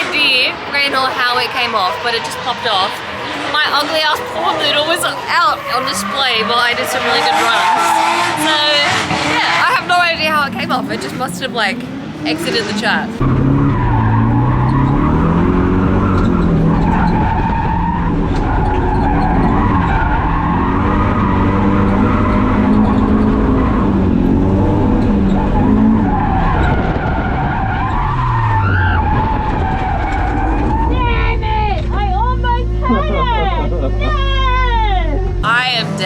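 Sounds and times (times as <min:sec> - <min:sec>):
car engine revving: 0:00.0 - 0:36.0
tyres skidding: 0:00.0 - 0:36.0.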